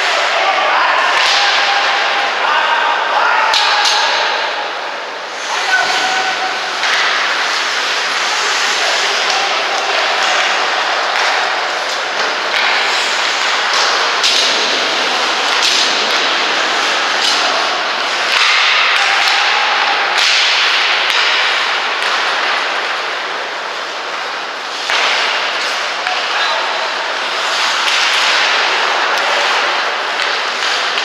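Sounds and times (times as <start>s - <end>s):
hockey sticks and puck clacking: 0.0s - 2.3s, 3.3s - 4.7s, 5.4s - 31.0s
skates scraping on ice: 5.4s - 31.0s.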